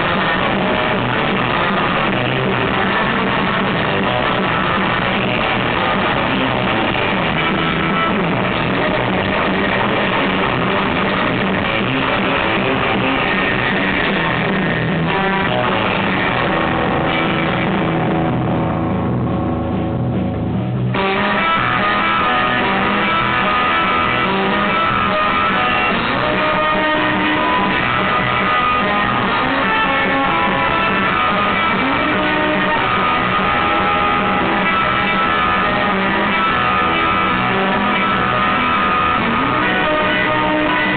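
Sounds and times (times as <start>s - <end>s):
electric guitar: 0.0s - 40.9s
surf rock band playing: 0.0s - 40.9s.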